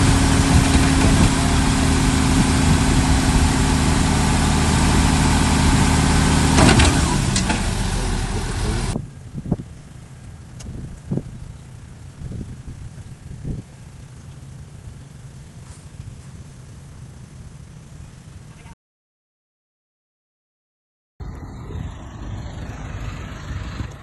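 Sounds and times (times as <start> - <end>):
heavy diesel engine running: 0.0 - 18.6, 21.2 - 24.0.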